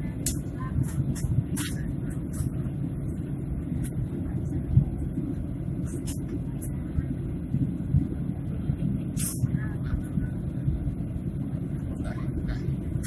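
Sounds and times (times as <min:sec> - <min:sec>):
airliner engine and airflow rumble: 0:00.0 - 0:13.0.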